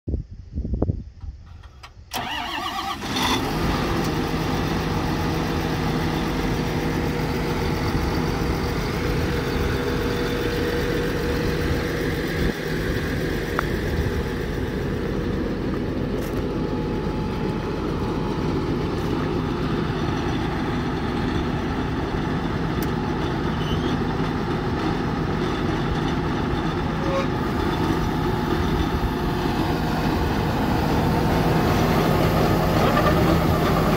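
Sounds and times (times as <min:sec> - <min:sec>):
tractor diesel engine running: 0:01.2 - 0:33.9.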